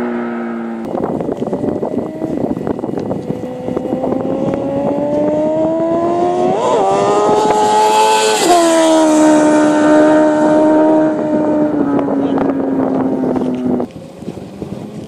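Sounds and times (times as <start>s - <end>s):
motorcycle engine at full throttle: 0.0s - 15.0s.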